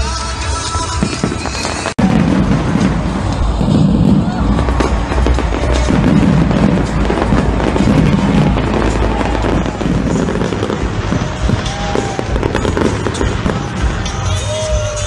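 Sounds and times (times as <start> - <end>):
music: 0.0 - 15.0
fireworks bangs and crackles: 0.5 - 15.0.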